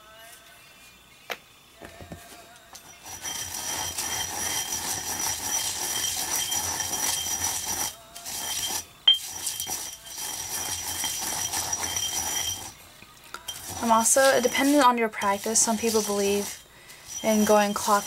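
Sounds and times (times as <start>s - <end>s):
thin high ringing: 2.7s - 18.0s
pestle grinding in stone mortar: 2.8s - 18.0s.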